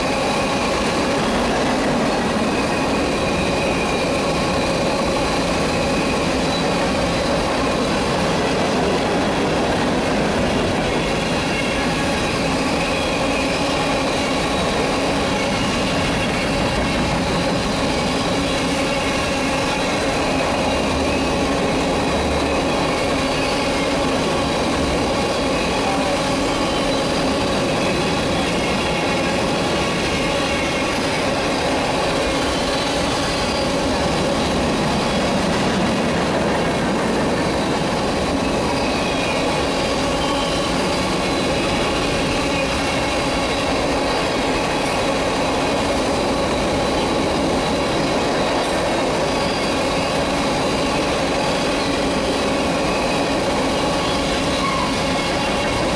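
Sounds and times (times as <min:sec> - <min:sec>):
train wheels rolling on rails: 0:00.0 - 0:55.9.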